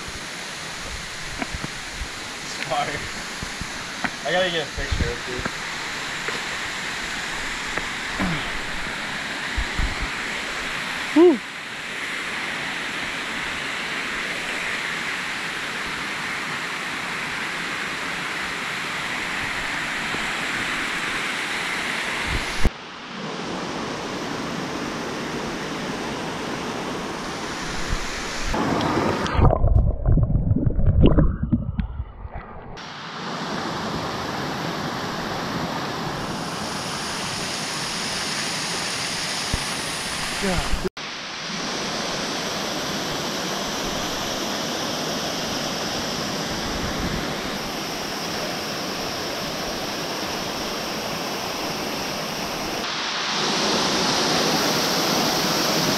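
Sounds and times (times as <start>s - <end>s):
waterfall rushing: 0.0s - 29.5s, 32.8s - 55.9s.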